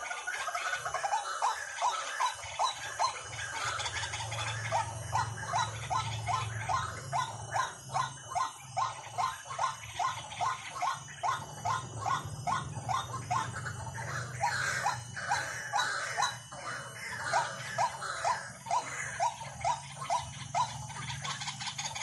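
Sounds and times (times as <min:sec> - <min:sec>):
low steady hum: 0:00.0 - 0:22.0
waterhen call: 0:00.0 - 0:22.0.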